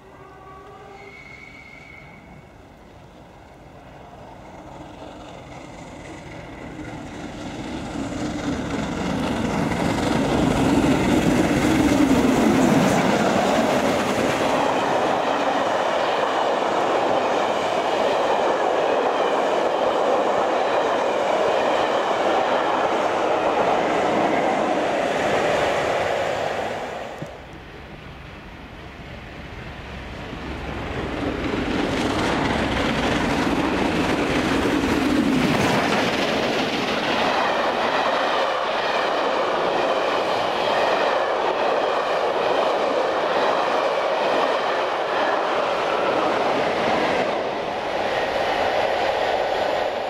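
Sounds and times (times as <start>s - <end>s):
steam locomotive passing: 0.0s - 50.0s
wheels on rail: 0.0s - 50.0s.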